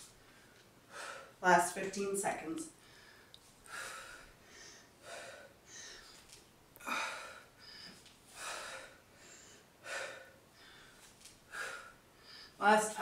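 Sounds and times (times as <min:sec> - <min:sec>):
woman breathing hard: 0:00.0 - 0:01.4, 0:02.8 - 0:12.6.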